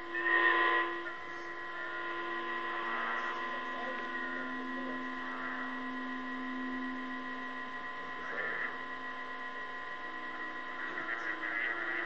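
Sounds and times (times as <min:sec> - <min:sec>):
electronic hum of held tones: 0:00.0 - 0:12.0.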